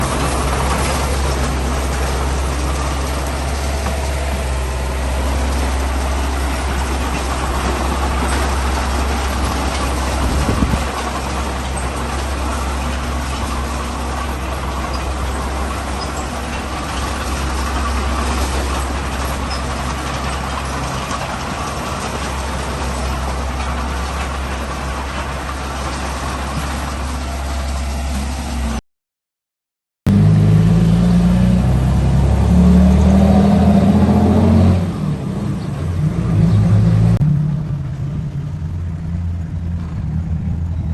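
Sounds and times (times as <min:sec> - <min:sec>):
heavy diesel engine running: 0:00.0 - 0:28.8, 0:30.1 - 0:40.9.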